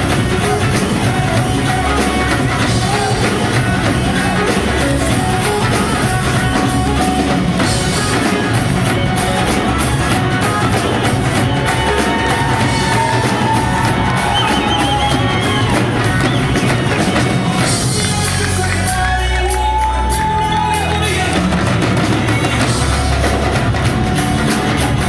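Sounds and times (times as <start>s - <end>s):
rock band playing: 0.0s - 25.0s.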